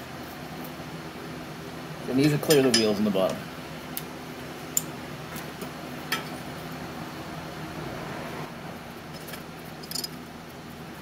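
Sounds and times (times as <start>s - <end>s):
workshop background hum: 0.0s - 11.0s.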